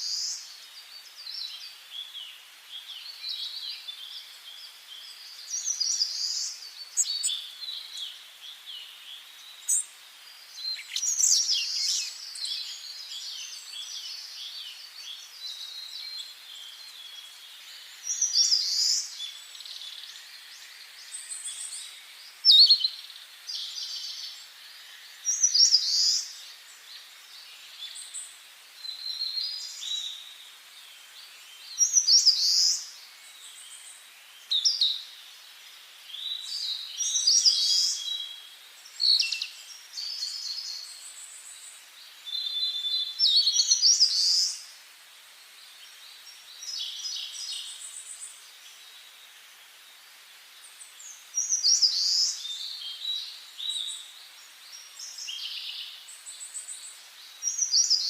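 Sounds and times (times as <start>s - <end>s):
faint steady hiss: 0.0s - 58.0s
songbirds singing: 0.0s - 58.0s.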